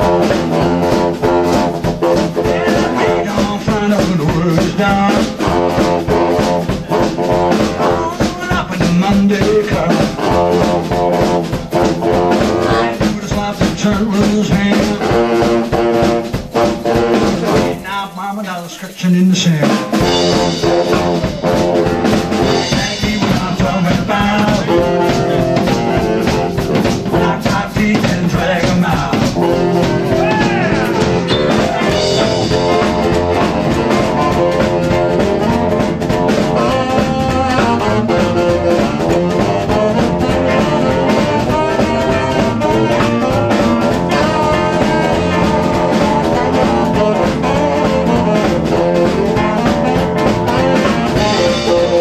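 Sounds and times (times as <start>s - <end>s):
double bass: 0.0s - 17.8s, 20.0s - 52.0s
electric guitar: 0.0s - 17.8s, 19.6s - 52.0s
baritone saxophone: 0.0s - 18.1s, 19.6s - 52.0s
drum kit: 0.0s - 52.0s.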